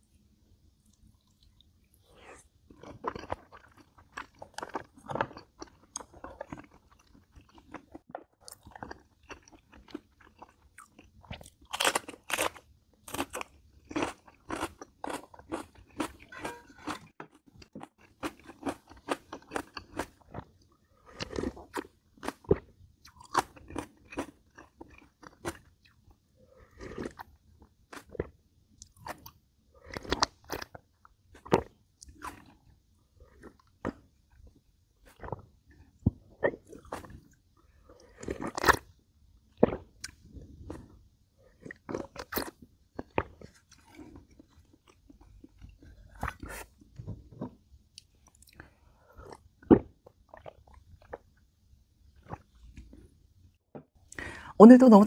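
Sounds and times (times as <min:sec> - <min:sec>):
chewing food: 0:00.8 - 0:51.4, 0:52.1 - 0:53.1.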